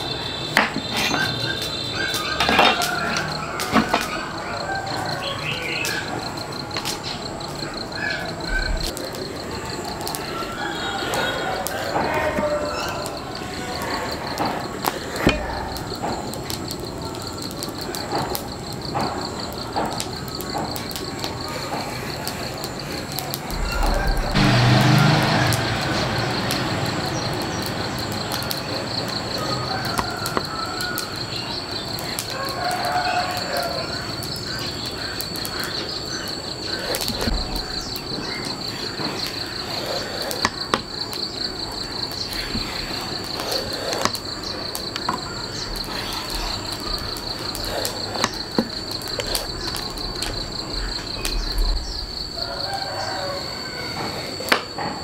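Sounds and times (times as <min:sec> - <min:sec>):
sharp clicks: 0:00.0 - 0:52.0
insect trilling: 0:00.0 - 0:54.8.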